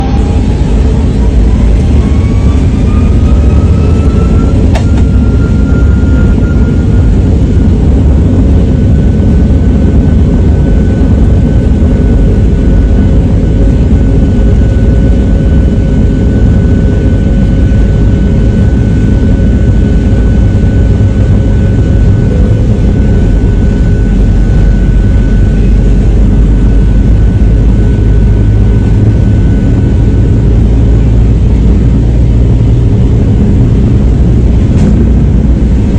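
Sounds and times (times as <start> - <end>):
jet engines rumble and whine: 0.0 - 35.9.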